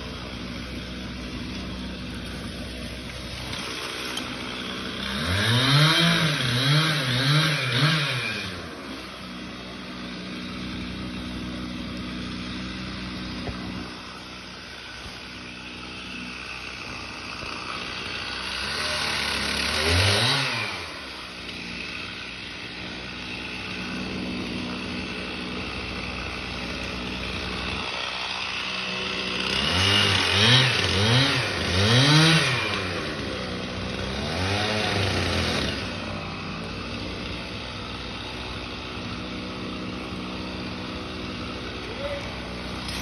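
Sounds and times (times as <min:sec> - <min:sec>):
chainsaw idling: 0:00.0 - 0:43.0
chainsaw revving: 0:00.0 - 0:43.0.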